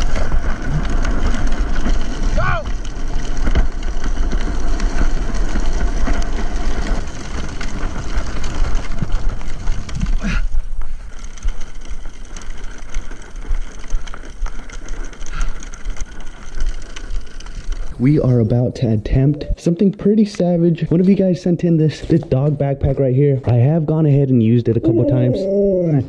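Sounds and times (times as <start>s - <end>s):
trike rolling over wet asphalt: 0.0s - 26.0s.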